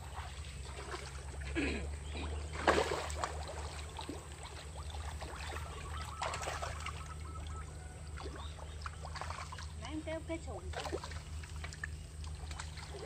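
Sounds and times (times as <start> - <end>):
pond water splashing: 0.0 - 13.0
steady low hum: 0.0 - 13.0.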